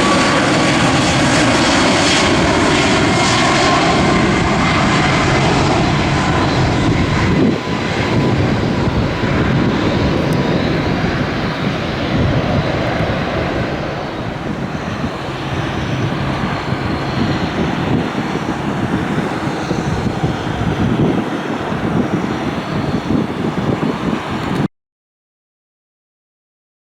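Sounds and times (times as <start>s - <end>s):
jet engines rushing with whine: 0.0s - 24.7s.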